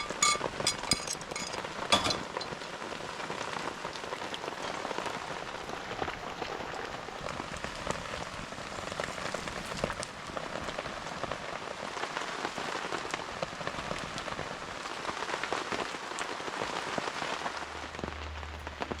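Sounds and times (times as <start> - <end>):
rain ticking on a tarp: 1.3 - 19.0.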